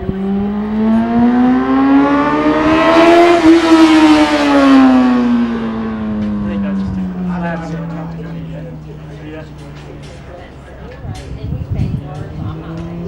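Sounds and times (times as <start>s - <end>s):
motorcycle engine revving: 0.0s - 10.8s, 11.8s - 13.0s.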